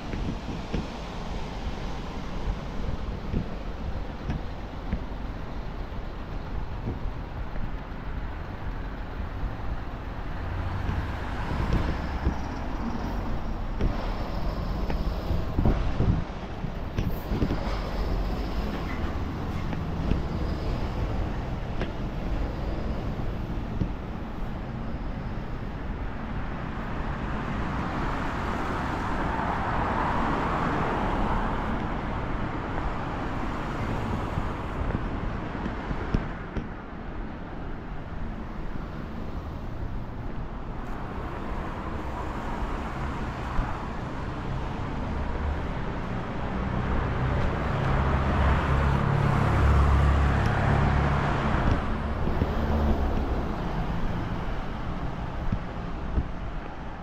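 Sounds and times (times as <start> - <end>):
cars passing on busy street: 0.0 - 57.0.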